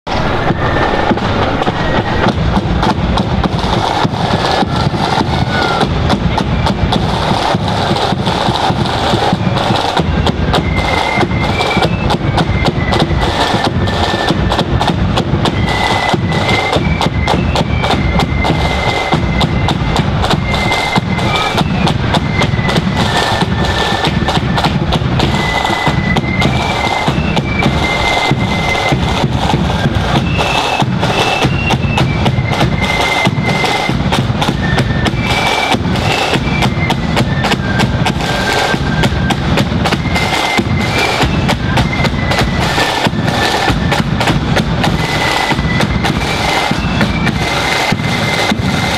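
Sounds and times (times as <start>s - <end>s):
flute melody: 0.1s - 48.9s
bass drum: 0.4s - 48.9s
rapid snare drumming: 0.4s - 48.9s.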